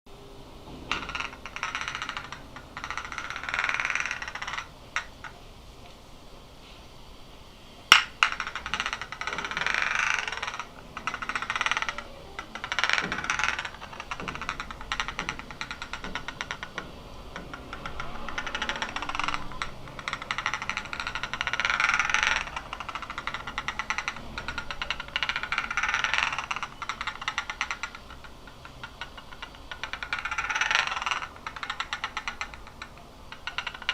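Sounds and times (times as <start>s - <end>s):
glasses rubbing together clicking: 0.7s - 6.0s, 7.8s - 33.9s.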